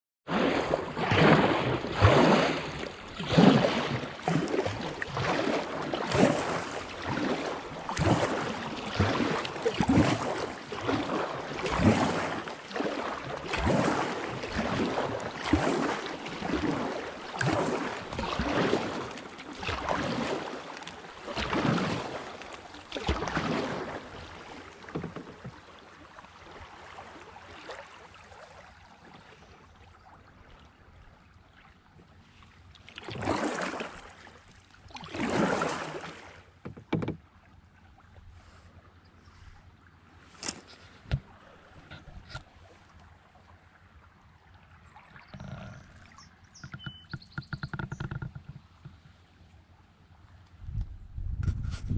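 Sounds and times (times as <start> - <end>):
kayak paddle splashing: 0.3 - 50.5.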